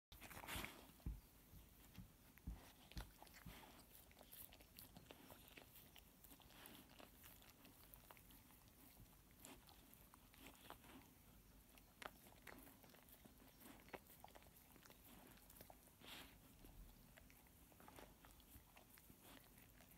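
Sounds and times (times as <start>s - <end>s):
dog licking: 1.8s - 19.9s.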